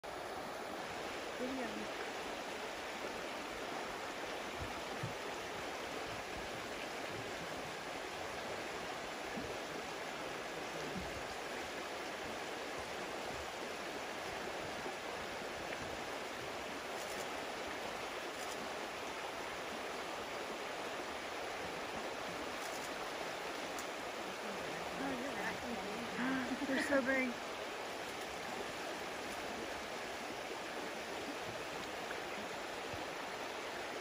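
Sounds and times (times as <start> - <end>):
river rushing over rocks: 0.0 - 34.0.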